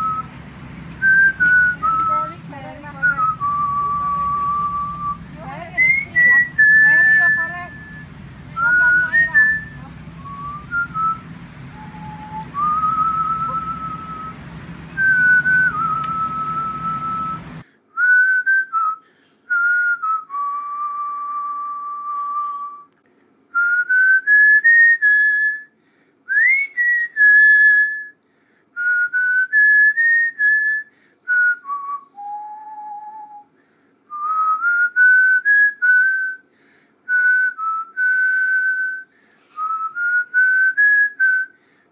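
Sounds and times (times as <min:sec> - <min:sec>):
person whistling a slow tune: 0:00.0 - 0:00.3, 0:01.0 - 0:02.3, 0:03.0 - 0:28.2, 0:28.8 - 0:36.5, 0:37.1 - 0:41.6
steady background hum: 0:00.0 - 0:41.9.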